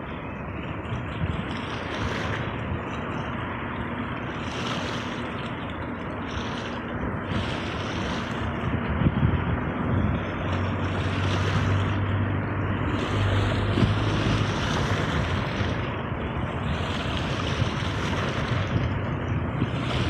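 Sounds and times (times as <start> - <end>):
low steady hum: 0.0 - 20.0
sea waves washing in: 0.0 - 20.0.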